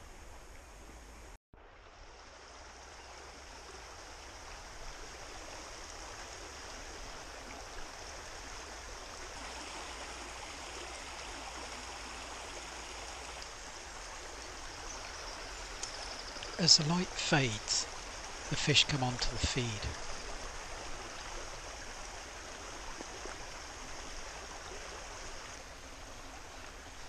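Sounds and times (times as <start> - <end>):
stream running over rocks: 0.0 - 27.0.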